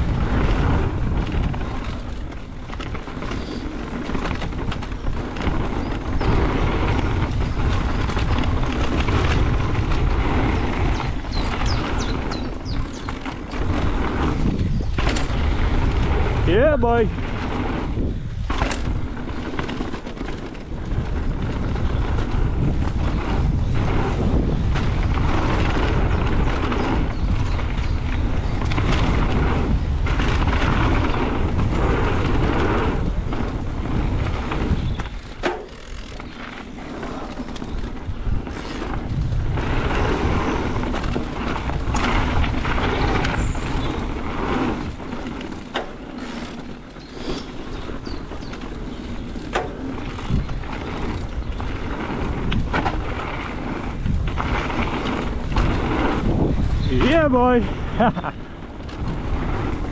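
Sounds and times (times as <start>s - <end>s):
bike knocking over bumps: 0.0s - 16.5s, 17.2s - 27.6s, 28.2s - 56.5s
tyres rumbling on dirt: 0.0s - 59.9s
wind rushing over microphone: 0.0s - 59.9s.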